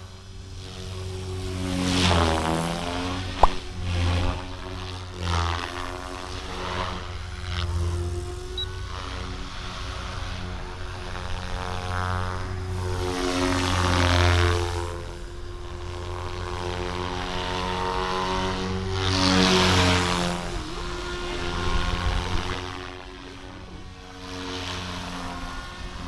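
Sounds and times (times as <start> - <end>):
rc helicopter whine and buzz: 0.0 - 26.0.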